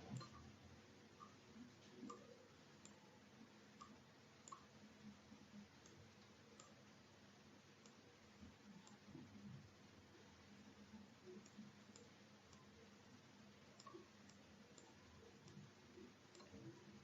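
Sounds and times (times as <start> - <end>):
computer mouse clicks: 0.0 - 0.5, 1.2 - 3.0, 3.8 - 6.9, 7.7 - 9.7, 10.6 - 17.0.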